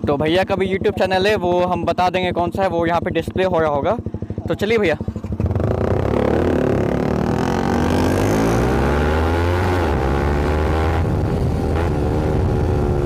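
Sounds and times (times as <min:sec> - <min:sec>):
motorcycles accelerating: 0:00.0 - 0:13.0.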